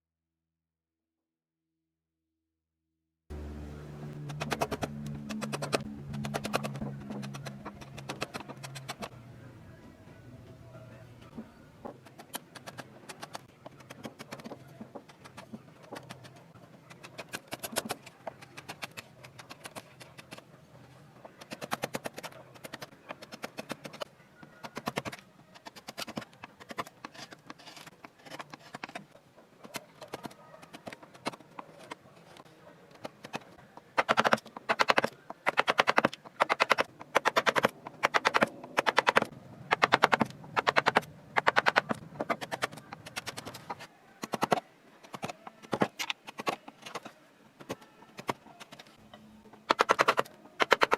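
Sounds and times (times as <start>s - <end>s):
wood-carving tools tapping and clicking: 4.2s - 9.2s, 11.2s - 20.5s, 21.2s - 50.9s.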